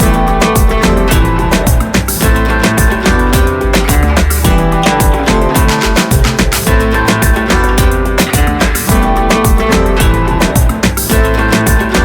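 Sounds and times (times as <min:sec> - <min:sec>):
music with beat and plucked guitar: 0:00.0 - 0:12.0.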